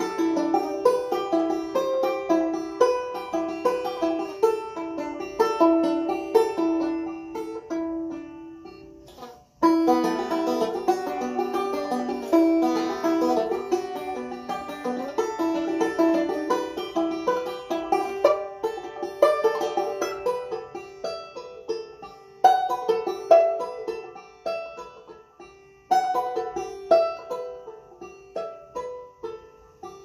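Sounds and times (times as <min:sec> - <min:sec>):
banjo picking: 0:00.0 - 0:30.0.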